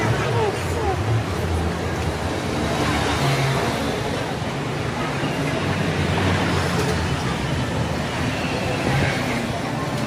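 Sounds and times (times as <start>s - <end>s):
faint voices of passers-by: 0.0s - 10.0s
road traffic passing: 0.0s - 10.0s.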